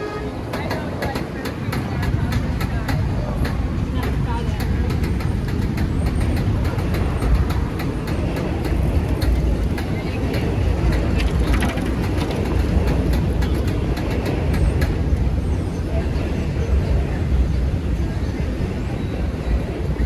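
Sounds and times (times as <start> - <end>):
chatter of passers-by: 0.0 - 20.0
traffic rumble: 0.0 - 20.0.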